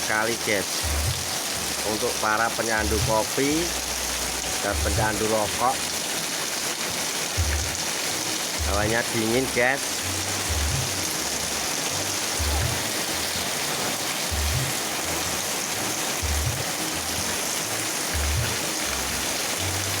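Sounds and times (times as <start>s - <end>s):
heavy rain pouring: 0.0s - 20.0s
music with low bass notes: 0.7s - 13.6s, 14.2s - 20.0s.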